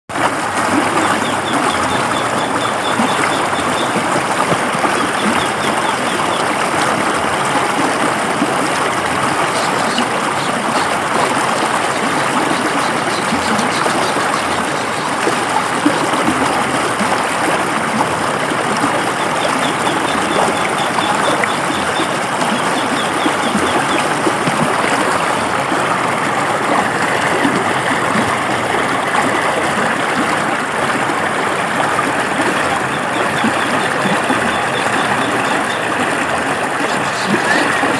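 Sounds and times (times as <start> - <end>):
river water flowing over rocks: 0.1 - 37.9.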